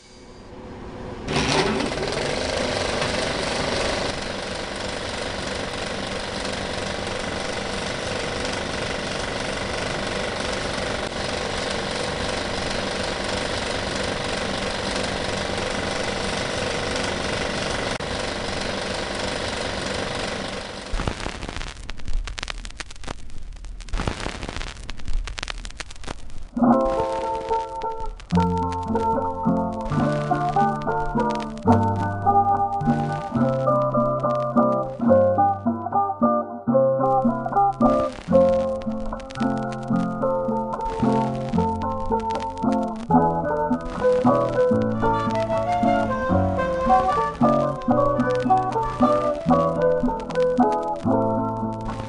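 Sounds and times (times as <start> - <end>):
mechanical running hum: 0.0 - 22.3, 24.1 - 35.3, 37.9 - 52.0
vinyl record crackles and pops: 1.9 - 52.0.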